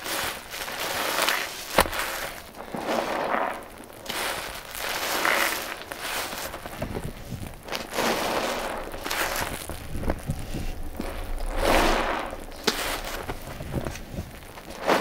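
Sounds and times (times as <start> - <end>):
wet sponges squeezed: 0.0 - 15.0.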